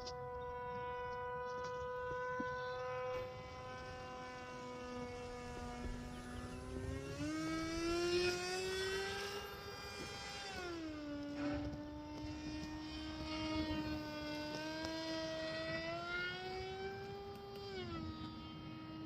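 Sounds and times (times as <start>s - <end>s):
model airplane motor whining: 0.0s - 19.0s
second lower motor whine: 0.0s - 19.0s.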